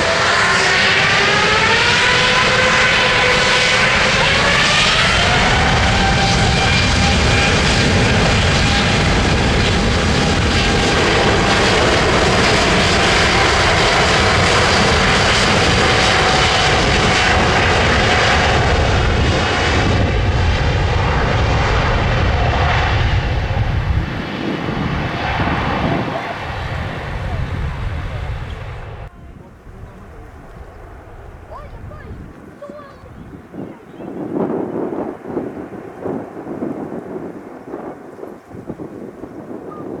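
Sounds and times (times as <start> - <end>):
jet engines roaring at takeoff: 0.0 - 40.0.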